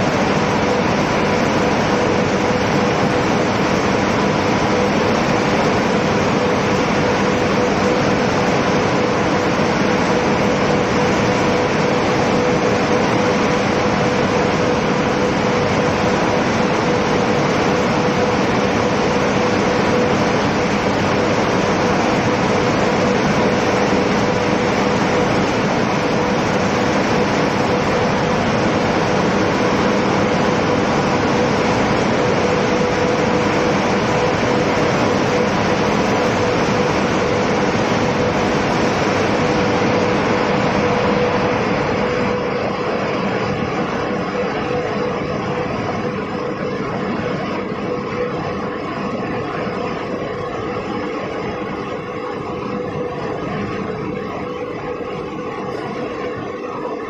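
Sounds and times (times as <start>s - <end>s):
loud machine drone: 0.0s - 57.0s.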